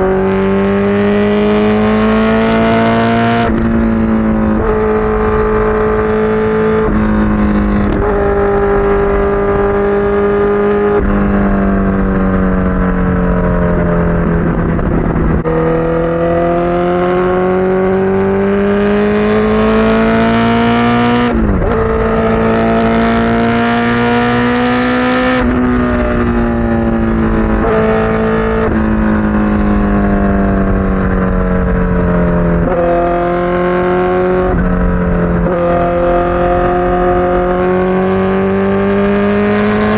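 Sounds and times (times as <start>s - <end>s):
motorcycle engine running: 1.0s - 39.9s.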